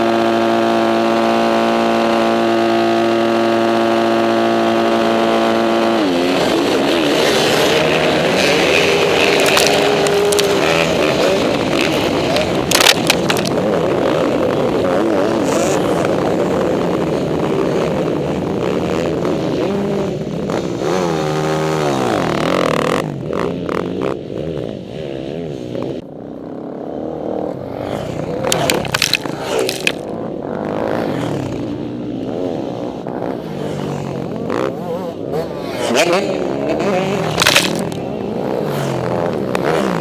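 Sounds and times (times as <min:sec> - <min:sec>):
dirt bikes revving past: 0:00.0 - 0:40.0.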